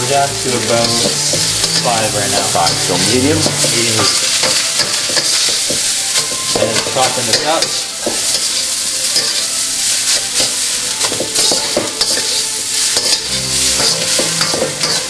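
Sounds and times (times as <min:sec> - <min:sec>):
rice sizzling in a wok: 0:00.0 - 0:15.0
stirring tool scraping a wok: 0:00.4 - 0:15.0.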